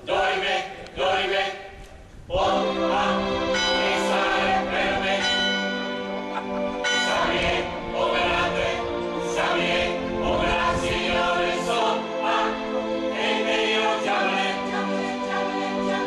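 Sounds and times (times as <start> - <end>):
mixed choir singing: 0.0 - 16.0.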